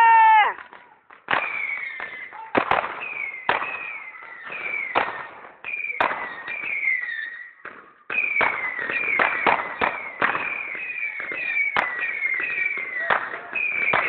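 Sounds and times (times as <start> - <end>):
firework launch cracks: 0.0 - 10.6, 11.2 - 14.0.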